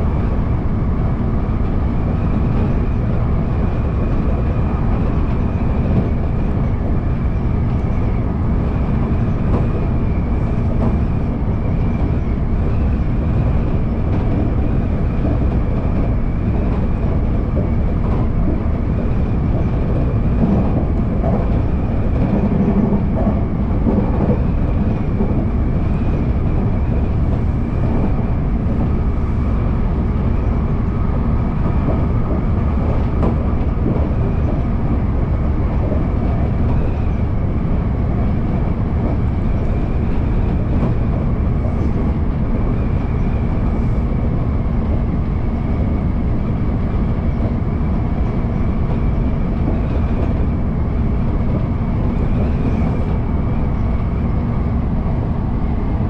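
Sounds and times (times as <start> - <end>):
electric train running rumble: 0.0 - 56.0.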